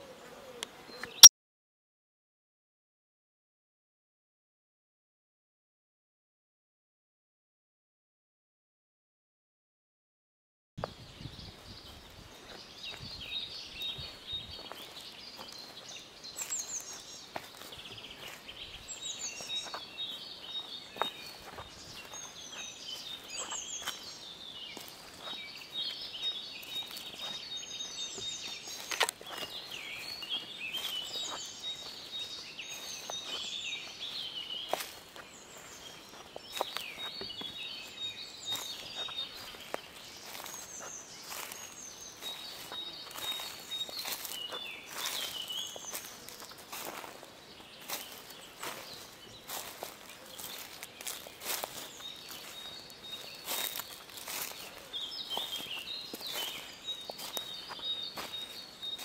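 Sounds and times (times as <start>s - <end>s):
birds singing in chorus: 0.0s - 1.3s, 10.8s - 59.0s.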